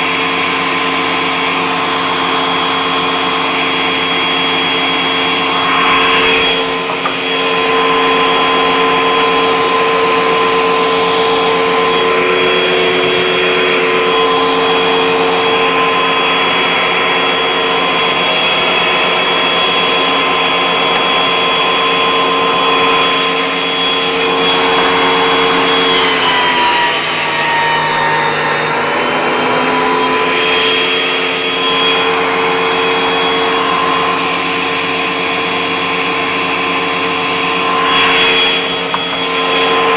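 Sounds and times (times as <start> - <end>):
thickness planer motor whine: 0.0 - 39.9
dust extractor rushing air: 0.1 - 39.9.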